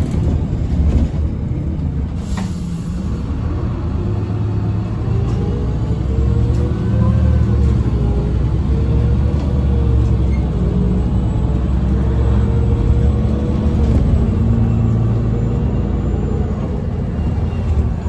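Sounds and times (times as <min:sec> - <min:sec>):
bus diesel drone with whine: 0:00.0 - 0:18.0.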